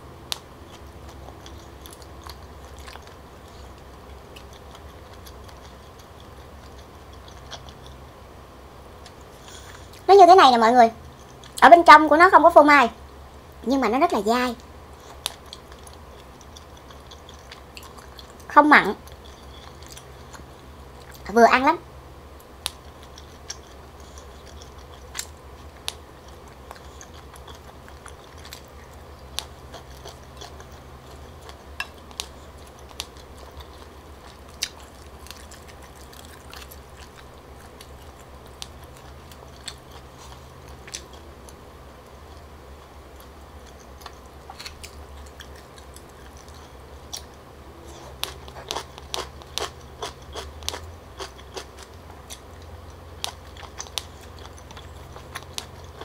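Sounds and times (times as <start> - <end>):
mouth chewing sounds: 0.2 - 8.1, 11.0 - 11.6, 14.6 - 21.3, 22.4 - 56.0.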